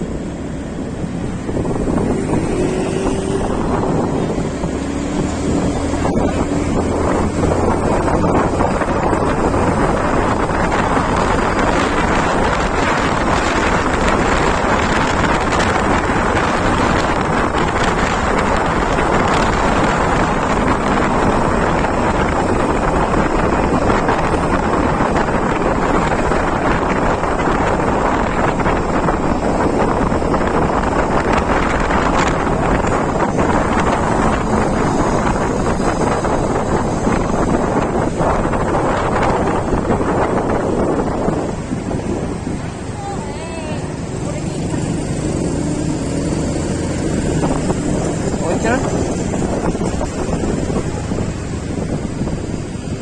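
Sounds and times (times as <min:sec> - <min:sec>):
vehicle road noise: 0:00.0 - 0:53.0
wind noise on microphone: 0:00.0 - 0:53.0.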